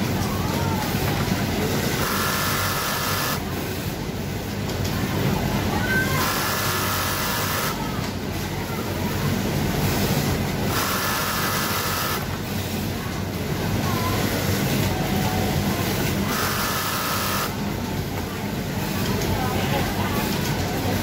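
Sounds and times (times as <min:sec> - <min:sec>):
hum of factory machines: 0:00.0 - 0:21.0.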